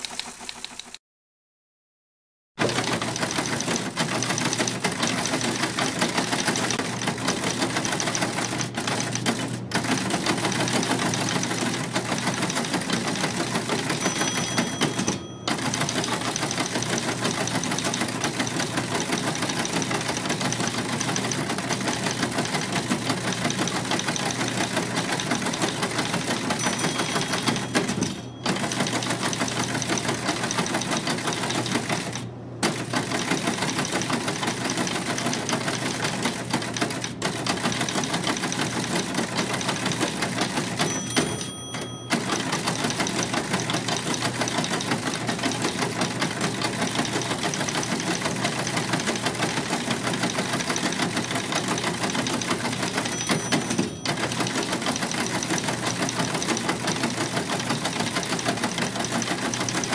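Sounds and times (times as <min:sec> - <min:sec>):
typewriter typing fast: 0:00.0 - 0:01.0, 0:02.6 - 0:59.9.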